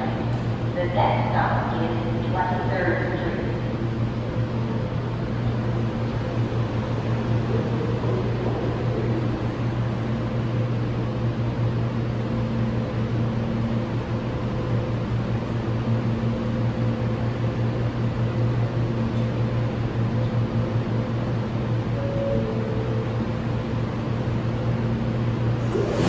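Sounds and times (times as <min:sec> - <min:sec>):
subway car rumble: 0:00.0 - 0:26.0.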